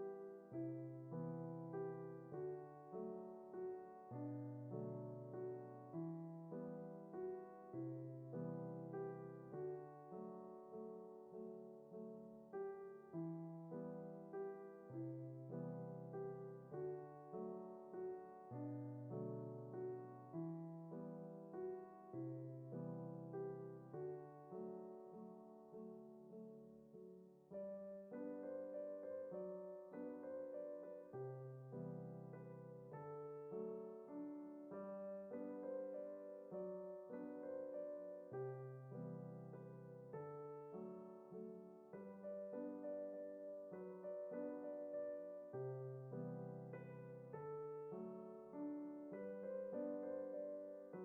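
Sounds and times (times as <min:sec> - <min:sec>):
soft piano music: 0:00.0 - 0:51.0.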